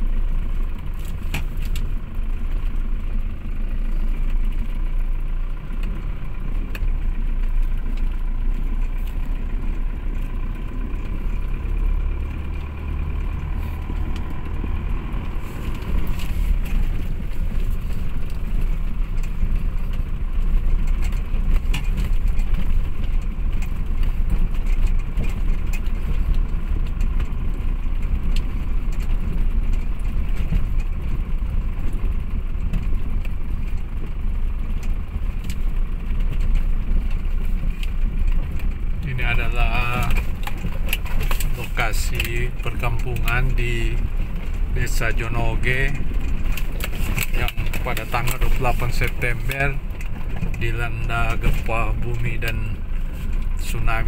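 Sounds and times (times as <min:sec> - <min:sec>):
car rumbling over gravel: 0:00.0 - 0:54.0
small ticks and knocks: 0:05.8 - 0:54.0.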